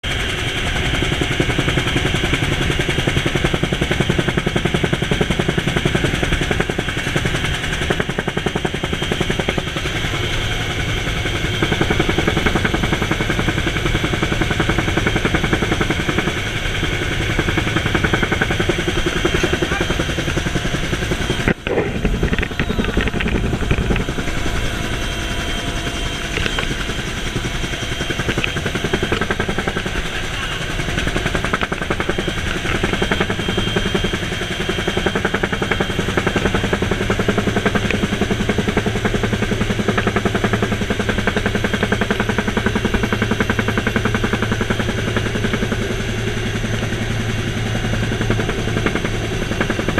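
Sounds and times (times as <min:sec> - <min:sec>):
helicopter rotor beating: 0:00.0 - 0:49.9
high engine whine: 0:00.0 - 0:49.9.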